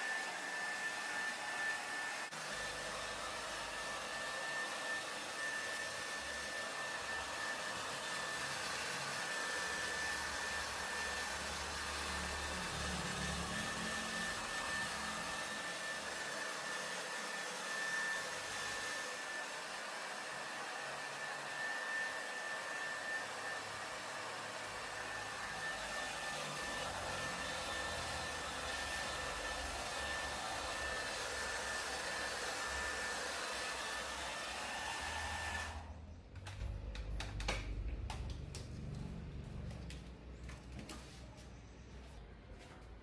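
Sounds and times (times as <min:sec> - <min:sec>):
electric blower whining: 0:00.0 - 0:36.6.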